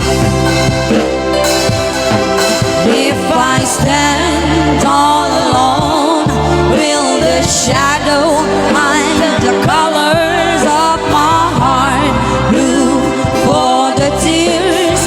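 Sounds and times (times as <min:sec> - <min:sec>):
heavy sustained bass notes: 0:00.0 - 0:15.0
person singing with vibrato: 0:00.0 - 0:15.0.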